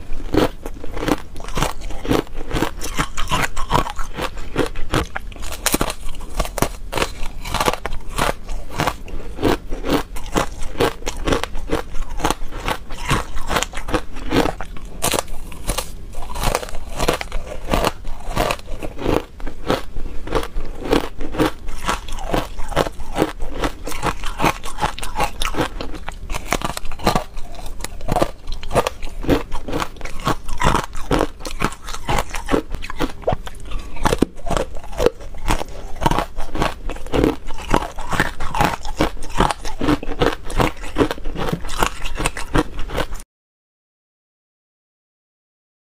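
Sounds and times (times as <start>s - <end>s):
ice crunching while chewed: 0.0s - 43.2s.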